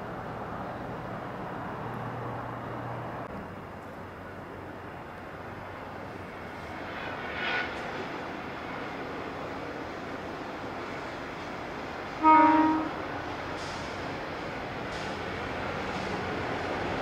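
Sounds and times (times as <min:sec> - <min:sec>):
distant train drone: 0:00.0 - 0:17.0.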